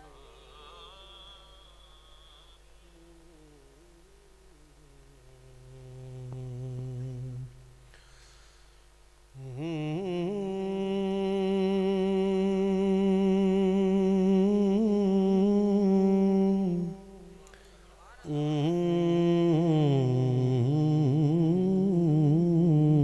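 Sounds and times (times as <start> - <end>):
man singing held notes: 2.8 - 8.1, 9.3 - 23.0.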